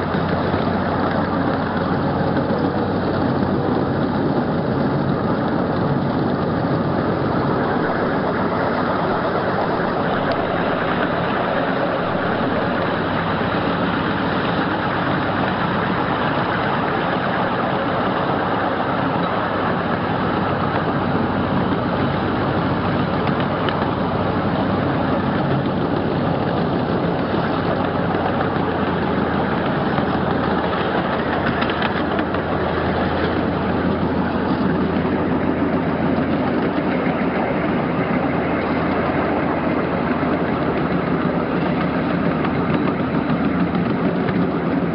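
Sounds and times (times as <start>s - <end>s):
low drone: 0.0s - 44.9s
train cars rolling on rails: 0.0s - 44.9s.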